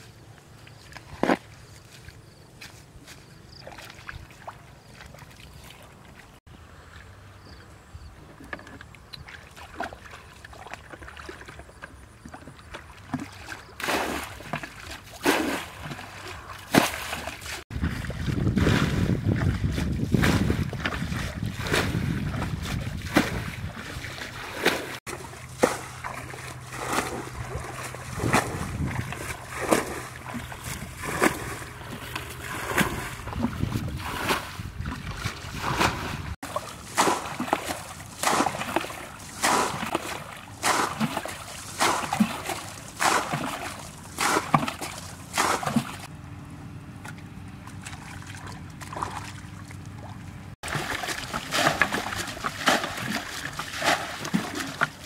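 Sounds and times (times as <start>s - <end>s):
bucket scooping water: 0.0s - 7.2s, 8.2s - 46.1s, 47.0s - 55.0s
water splashing: 3.5s - 7.2s, 8.3s - 46.1s, 47.0s - 55.0s.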